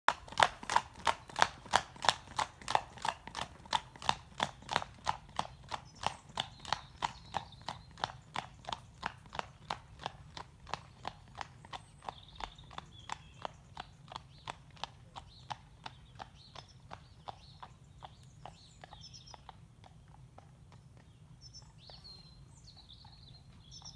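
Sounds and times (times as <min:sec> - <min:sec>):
hooves clip-clopping on road: 0:00.1 - 0:23.9.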